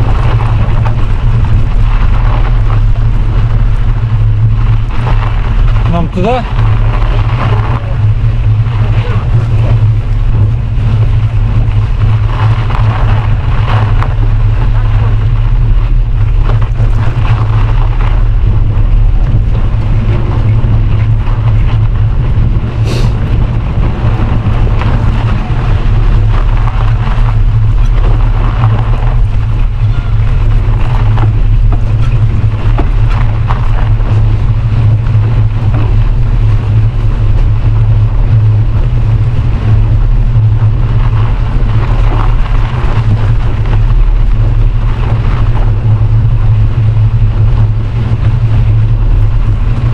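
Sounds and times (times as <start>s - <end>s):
wind rumble on microphone: 0.0s - 49.9s.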